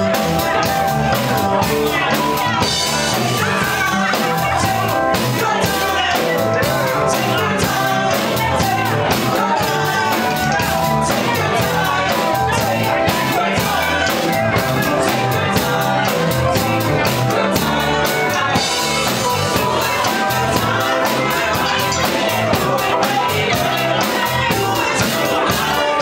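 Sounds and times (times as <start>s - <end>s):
live band playing: 0.0s - 26.0s
woman singing: 1.5s - 26.0s.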